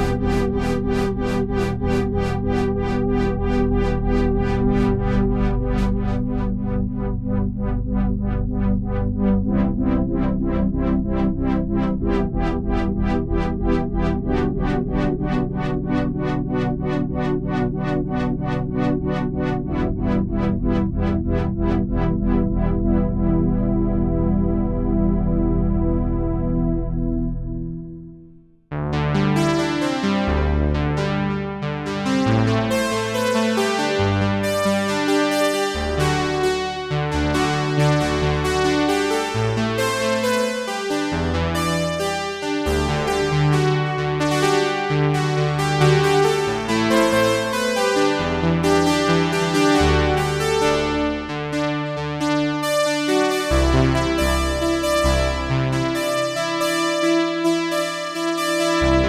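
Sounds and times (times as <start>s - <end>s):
synthesizer bass line: 0.0s - 59.0s
synthesizer chords: 0.0s - 59.0s.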